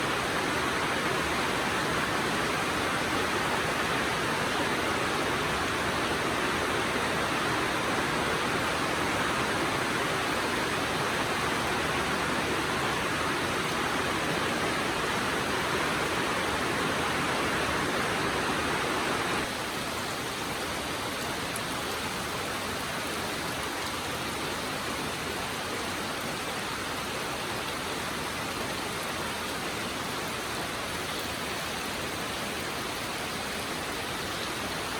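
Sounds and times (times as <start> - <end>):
heavy rainfall hiss: 0.0 - 34.9.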